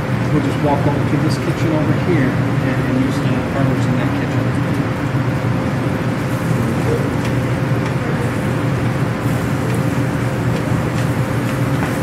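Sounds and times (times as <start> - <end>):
low hum of machinery: 0.0 - 12.0.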